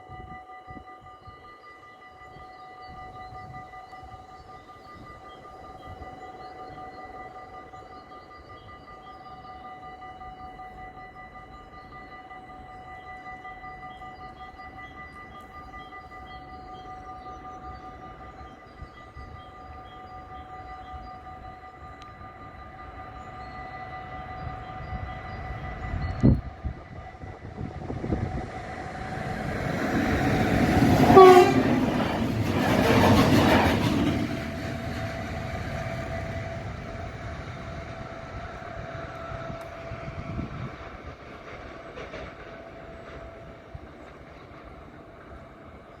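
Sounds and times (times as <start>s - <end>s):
freight train passing: 0.0s - 46.0s
train horn: 0.0s - 46.0s.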